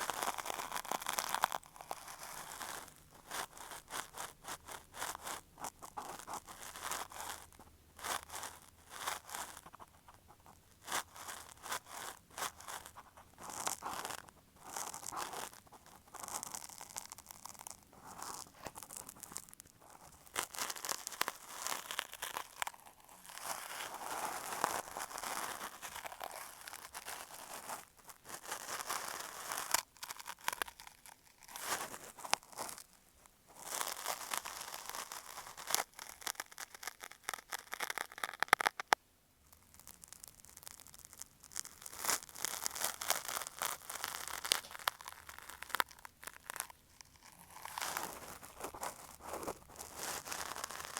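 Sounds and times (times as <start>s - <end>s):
cotton swab scratching microphone: 0.0s - 38.9s, 41.9s - 50.9s.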